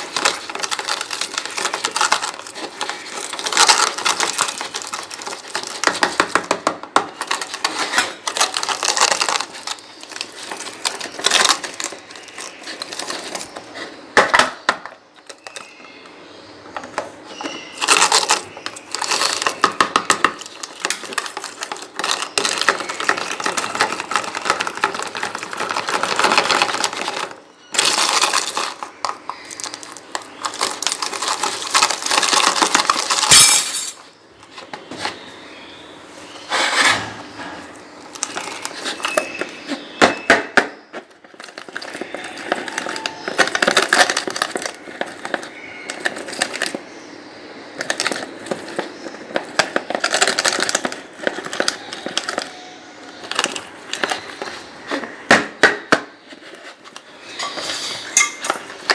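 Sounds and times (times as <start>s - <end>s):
dry food crunching: 0.0s - 14.1s, 16.7s - 58.9s.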